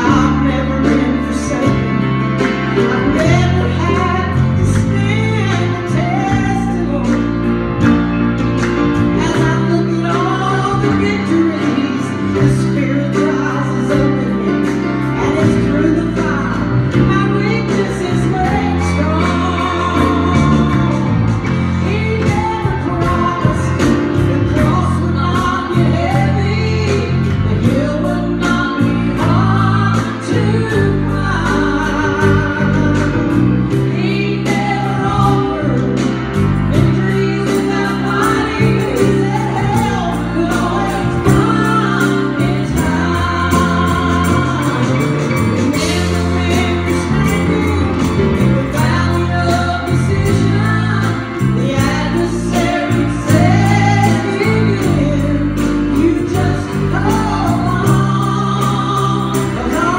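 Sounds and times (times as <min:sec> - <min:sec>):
piano accompaniment: 0:00.0 - 0:59.9
woman singing gospel: 0:00.0 - 0:59.9.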